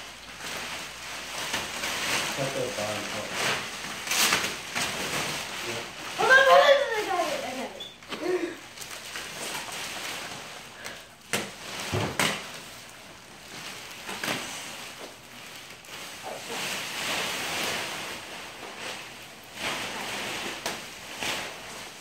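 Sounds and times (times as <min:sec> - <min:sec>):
plastic wrap crinkling and rustling: 0:00.0 - 0:22.0.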